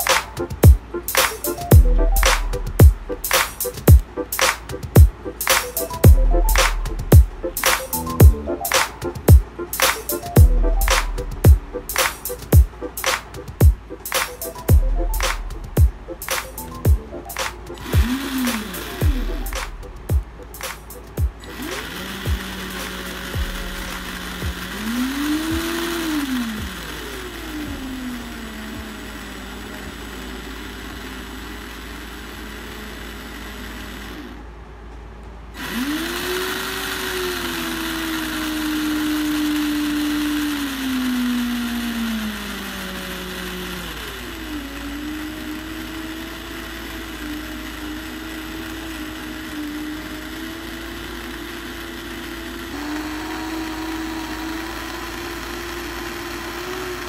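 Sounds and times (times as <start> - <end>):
electric motor whine: 0.0 - 57.0.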